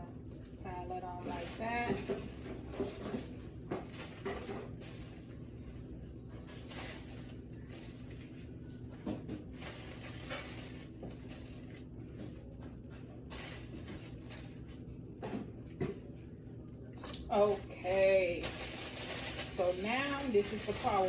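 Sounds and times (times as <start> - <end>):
rustling and handling noises: 0.0 - 16.3, 17.0 - 21.0
steady low hum: 0.0 - 21.0.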